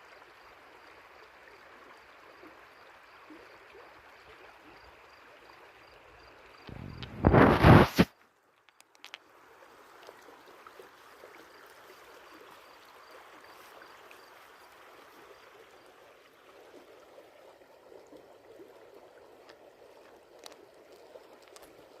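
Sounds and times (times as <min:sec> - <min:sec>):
faint babbling water: 0:00.0 - 0:07.5, 0:08.3 - 0:22.0.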